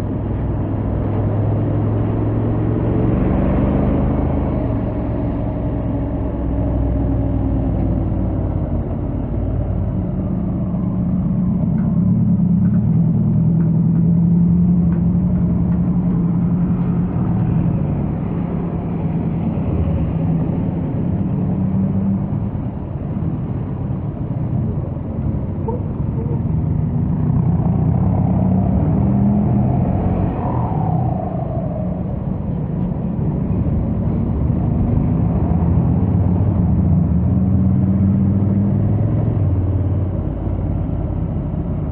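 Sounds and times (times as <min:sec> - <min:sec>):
low wind rumble: 0:00.0 - 0:41.9
motorcycle engine at speed: 0:00.0 - 0:41.9.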